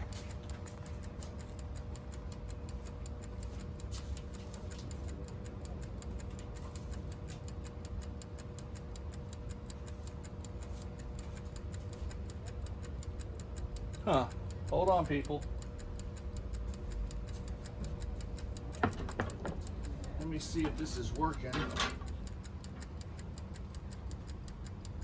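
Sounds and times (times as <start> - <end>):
mechanical timer ticking: 0.0 - 25.0
steady low hum: 0.0 - 25.0.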